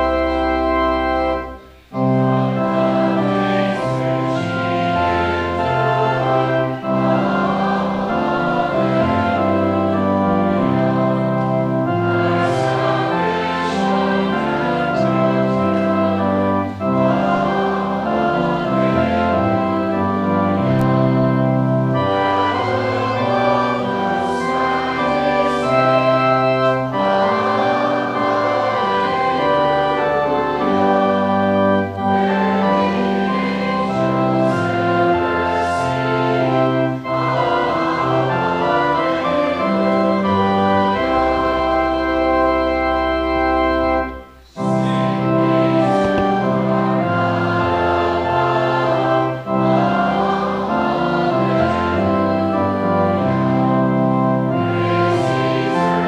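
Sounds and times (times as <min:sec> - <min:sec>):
church organ playing: 0:00.0 - 0:56.0
congregation singing: 0:00.0 - 0:56.0.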